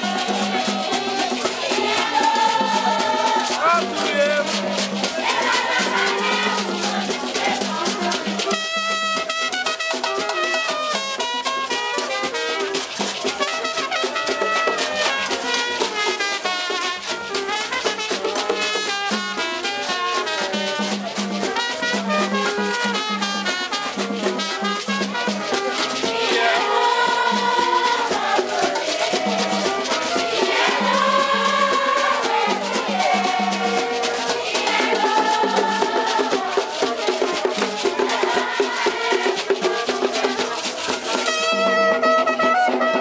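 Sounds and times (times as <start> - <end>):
shakers: 0.0 - 41.6
fast drums: 0.0 - 43.0.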